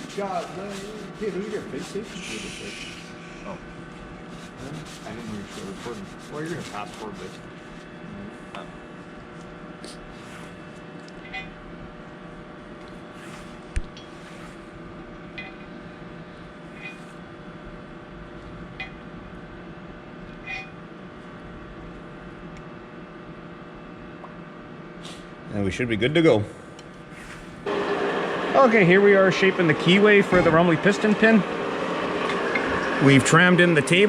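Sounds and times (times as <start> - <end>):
metalworking machine humming: 0.0 - 21.1, 27.5 - 34.0.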